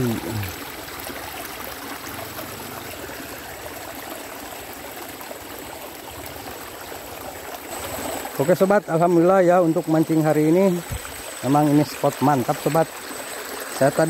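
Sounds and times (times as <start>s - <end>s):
stream water trickling: 0.0s - 14.0s.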